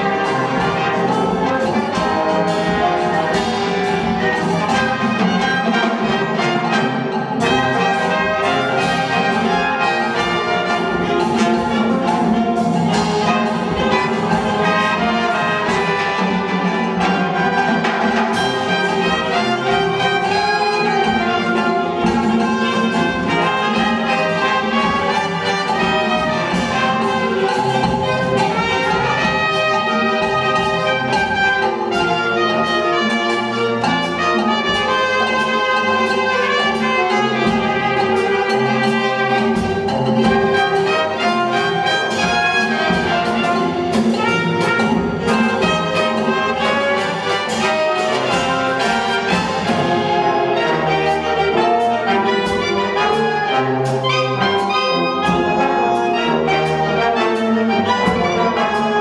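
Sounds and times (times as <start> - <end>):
percussion beat: 0.0 - 59.0
wind band playing salsa: 0.0 - 59.0.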